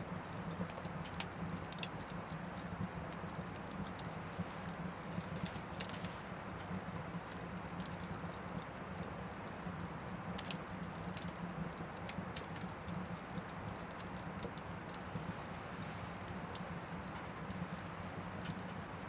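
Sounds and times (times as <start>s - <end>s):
low hum of fire: 0.0s - 19.0s
wood fire crackling and popping: 0.1s - 19.0s.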